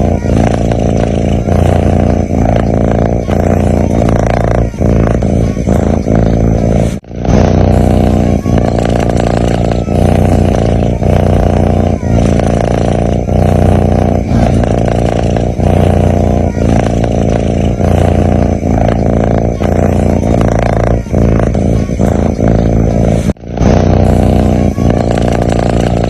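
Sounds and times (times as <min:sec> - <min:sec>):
kitten snoring: 0:00.0 - 0:26.0.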